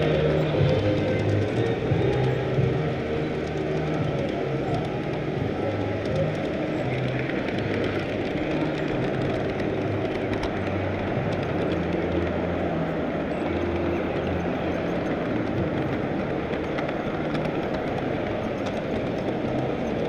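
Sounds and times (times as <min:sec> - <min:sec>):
model train wheels rumbling: 0:00.0 - 0:20.0.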